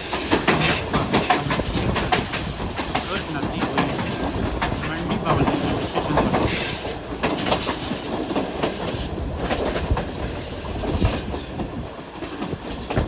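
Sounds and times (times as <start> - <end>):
train rumbling on track: 0.0 - 13.0
wheel squealing on rail: 0.0 - 13.0
wheels clicking over rail joints: 0.0 - 13.0.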